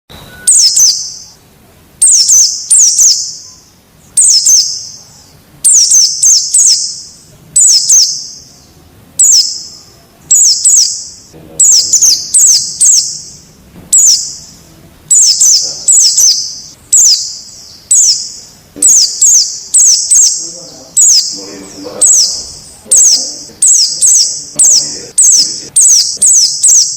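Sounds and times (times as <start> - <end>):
birds chirping sharply: 0.1 - 26.9.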